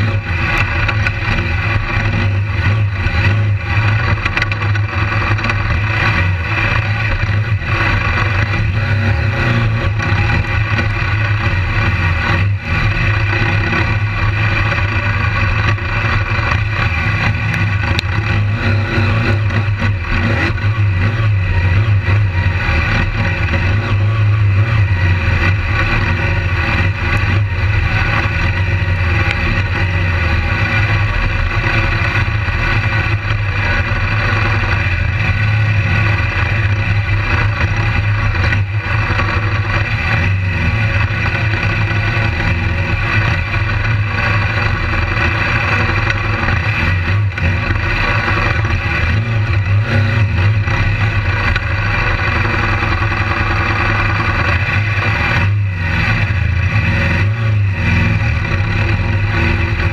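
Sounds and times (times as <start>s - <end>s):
motorcycle engine running: 0.0s - 59.9s
other dirt bike engines: 0.0s - 59.9s.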